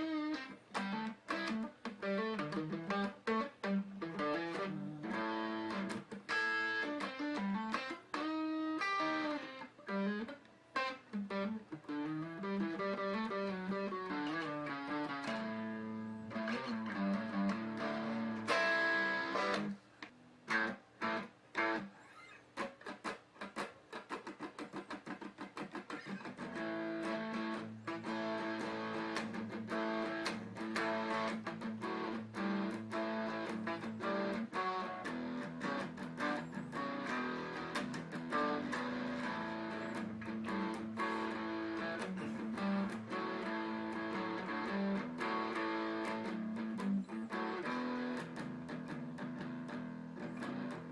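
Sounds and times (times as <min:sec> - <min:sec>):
guitar plucking: 0:00.0 - 0:50.9.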